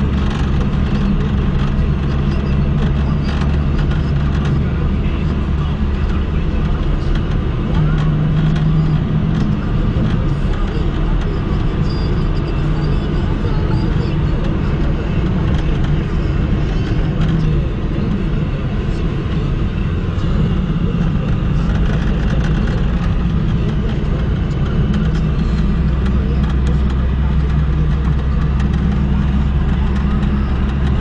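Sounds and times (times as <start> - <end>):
car engine drone: 0.0 - 31.0.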